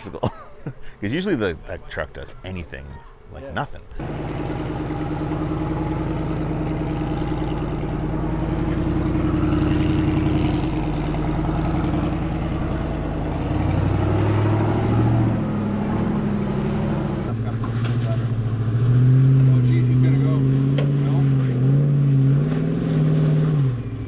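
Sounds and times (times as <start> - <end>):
engine revving under load: 4.0 - 24.0.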